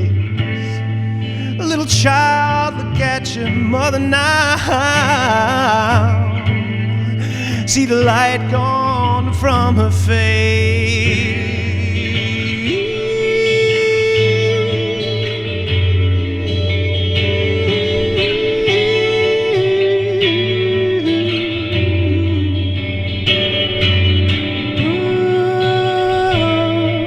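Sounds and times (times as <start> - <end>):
lead guitar with vibrato: 0.0 - 27.0.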